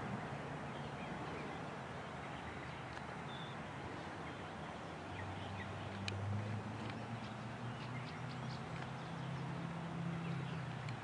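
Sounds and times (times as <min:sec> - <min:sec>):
birds chirping: 0:00.0 - 0:11.0
diesel engine drone: 0:00.0 - 0:11.0.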